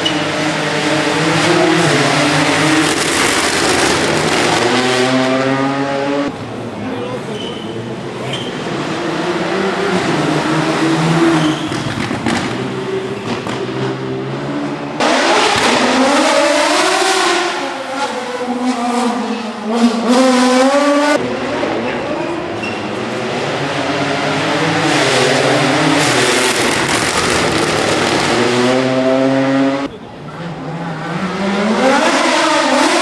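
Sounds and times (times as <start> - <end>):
rally car engine revving: 0.0 - 6.9, 7.6 - 33.0.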